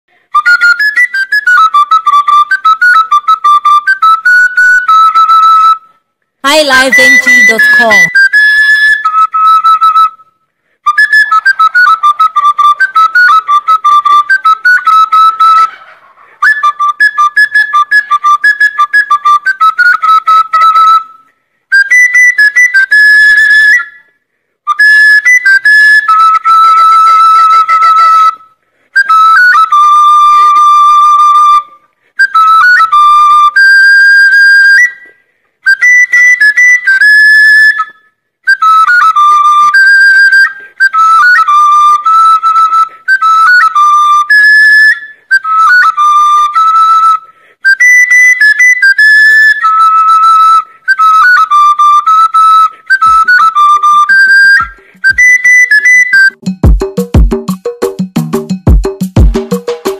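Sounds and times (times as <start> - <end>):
trilling flute-like whistle tune: 0.1 - 56.4.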